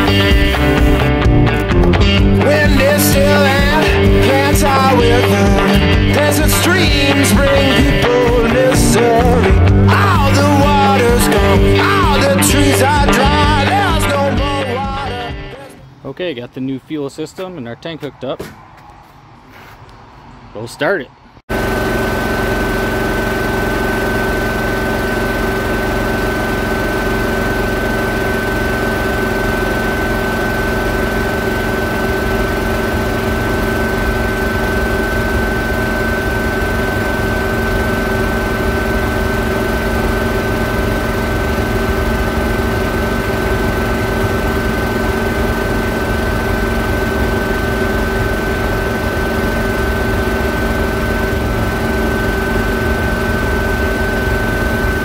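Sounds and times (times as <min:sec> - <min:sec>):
small gasoline engine running: 0:00.0 - 0:15.6, 0:21.5 - 0:55.0
turbojet engine droning and whining: 0:00.0 - 0:16.0, 0:21.4 - 0:55.0.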